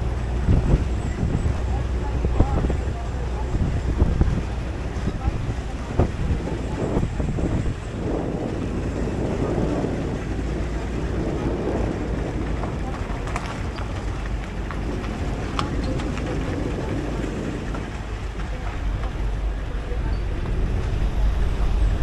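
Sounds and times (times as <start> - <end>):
moving vehicle rumble: 0.0 - 22.0
wind buffeting microphone: 0.0 - 22.0
light clicks and rattles: 0.4 - 19.5.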